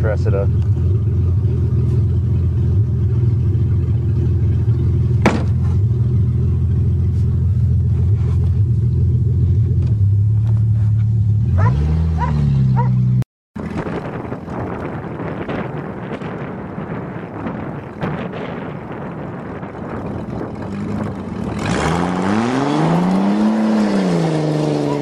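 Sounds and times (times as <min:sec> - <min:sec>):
car engine running: 0:00.0 - 0:25.0
road rumble: 0:00.0 - 0:25.0.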